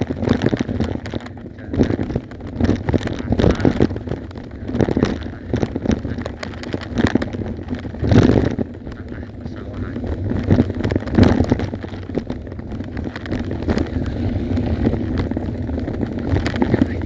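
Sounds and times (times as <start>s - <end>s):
bicycle rattling over bumps: 0.0s - 17.0s
wind on microphone: 0.0s - 17.0s.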